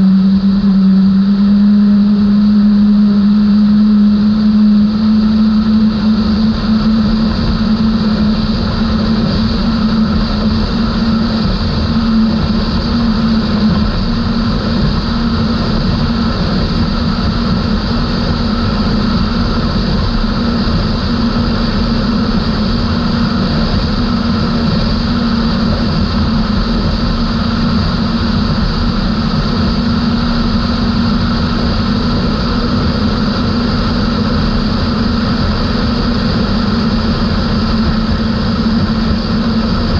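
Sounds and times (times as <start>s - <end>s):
outboard engine drone: 0.0s - 39.9s.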